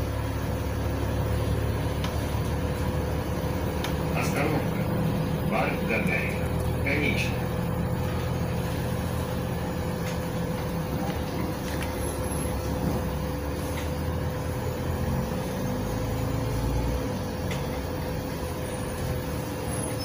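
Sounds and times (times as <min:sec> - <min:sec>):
bus engine drone: 0:00.0 - 0:20.0
steady whine: 0:00.0 - 0:20.0.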